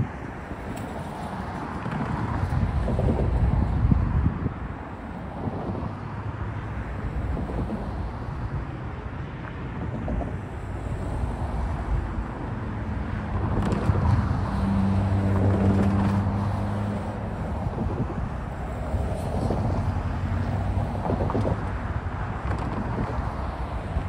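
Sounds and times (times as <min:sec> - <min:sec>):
cars passing: 0:00.0 - 0:24.0
wind on microphone: 0:00.0 - 0:24.0.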